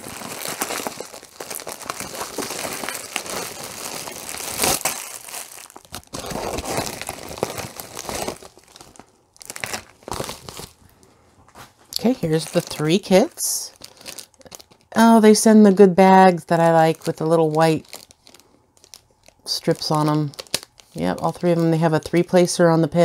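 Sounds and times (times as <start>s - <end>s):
plastic bag crinkling and tearing: 0.0s - 10.8s, 12.0s - 15.4s, 16.1s - 22.1s
cellophane wrappers rustling: 0.0s - 11.0s, 11.9s - 22.6s.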